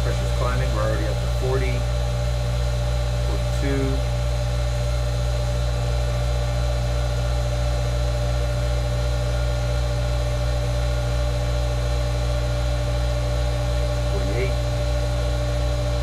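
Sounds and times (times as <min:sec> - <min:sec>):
water pump humming: 0:00.0 - 0:16.0.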